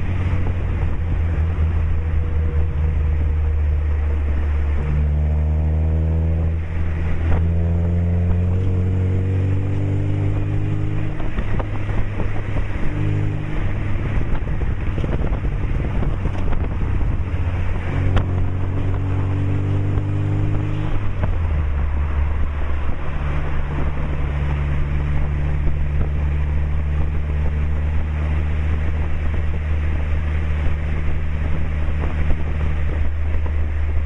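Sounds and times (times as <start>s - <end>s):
car exhaust accelerating: 0.0s - 34.0s
wind and road noise: 0.0s - 34.0s.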